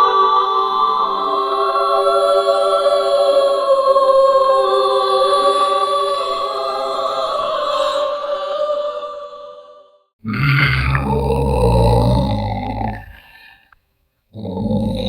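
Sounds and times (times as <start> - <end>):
choir-like voices holding notes: 0.0 - 13.4.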